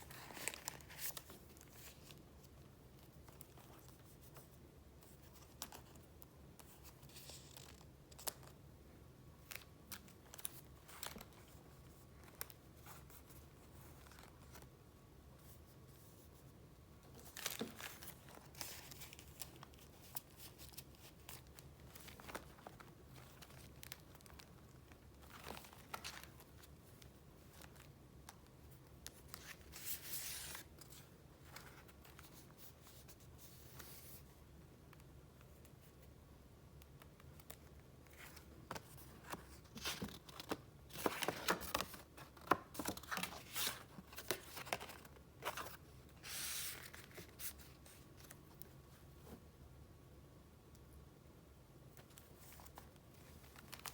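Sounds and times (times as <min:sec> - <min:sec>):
paper rustling and crinkling: 0:00.0 - 0:08.6, 0:09.4 - 0:14.7, 0:17.1 - 0:36.0, 0:37.3 - 0:49.4, 0:52.0 - 0:53.9.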